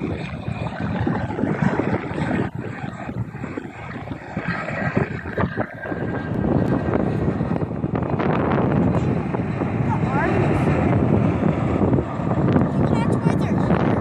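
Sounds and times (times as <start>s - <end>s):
helicopter rotors chopping: 0.0s - 14.0s.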